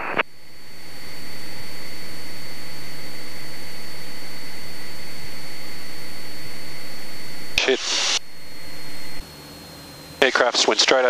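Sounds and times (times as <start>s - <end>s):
thin high whine: 0.0s - 11.0s
airplane engine and propeller droning: 0.3s - 11.0s.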